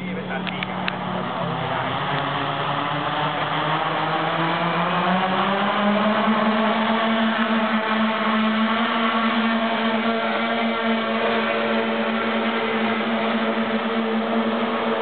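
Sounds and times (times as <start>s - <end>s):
quadcopter motors whirring: 0.0s - 15.0s.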